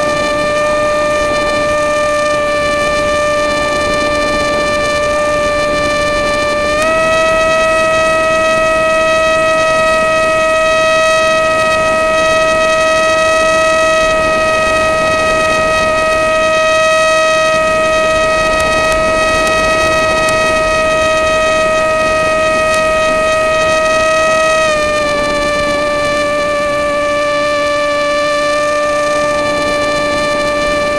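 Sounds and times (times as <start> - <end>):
electric motor whine: 0.0 - 30.9
wind over microphone: 0.0 - 30.9.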